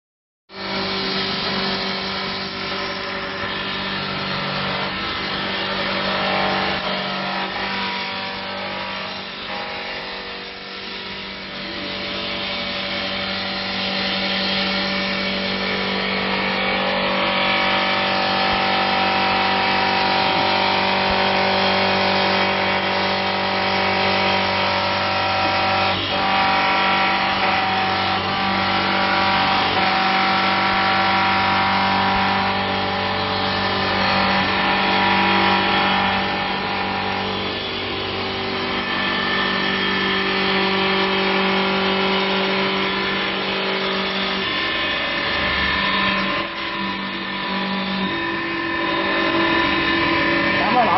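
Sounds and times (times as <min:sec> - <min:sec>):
wood lathe machine hum: 0:00.6 - 0:50.9.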